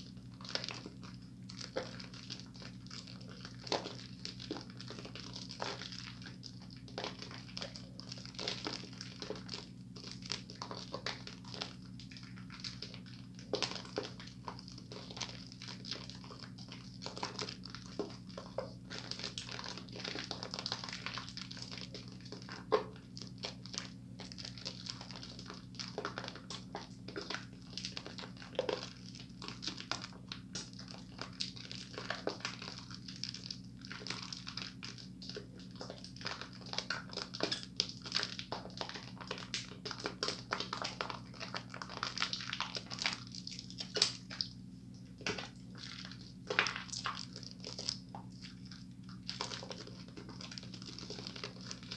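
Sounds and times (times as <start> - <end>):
hands squishing soapy lather: 0.0 - 51.9.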